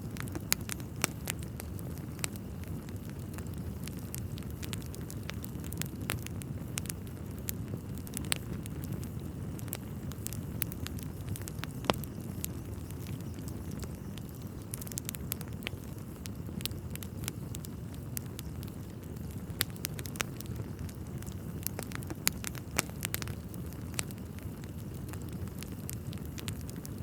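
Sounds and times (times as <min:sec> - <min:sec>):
fire low rumble: 0:00.0 - 0:27.0
log fire crackling and popping: 0:00.0 - 0:27.0.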